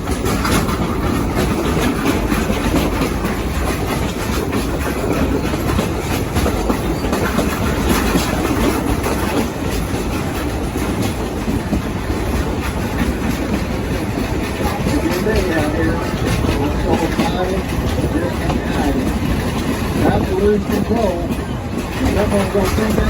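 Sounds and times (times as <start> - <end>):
train cars rattling and clacking: 0.0 - 23.0.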